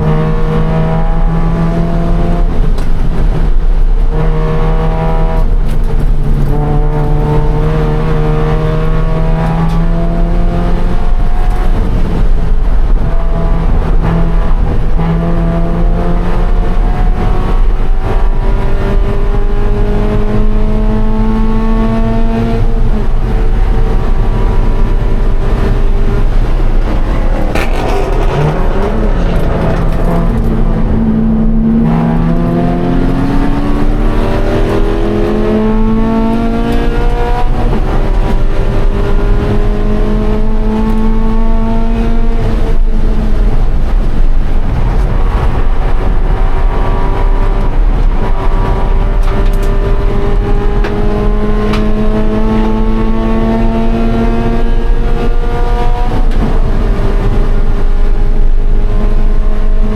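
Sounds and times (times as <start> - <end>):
race car engine at full throttle: 0.0 - 59.9.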